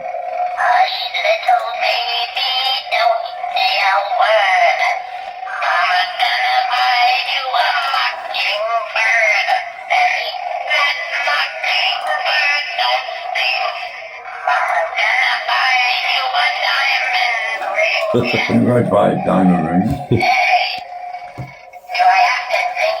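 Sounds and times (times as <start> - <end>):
toy singing through tinny speaker: 0.7 - 20.2.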